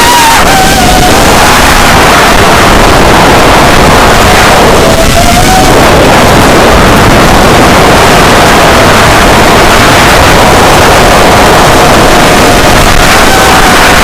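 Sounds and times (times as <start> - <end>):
wind and motor roar: 0.0 - 14.0.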